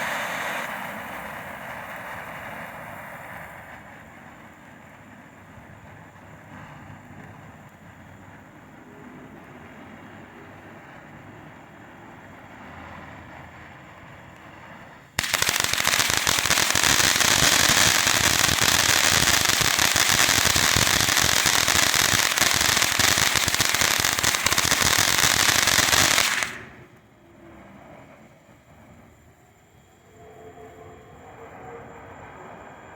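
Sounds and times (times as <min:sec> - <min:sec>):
firework fountain crackling: 0:00.0 - 0:27.4
firework fountain rushing: 0:00.0 - 0:27.6.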